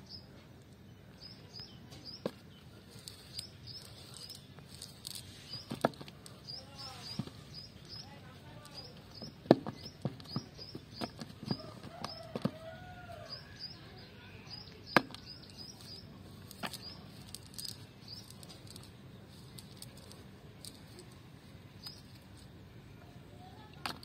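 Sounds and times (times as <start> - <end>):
bird chirping: 0.0 - 21.1, 21.7 - 22.3.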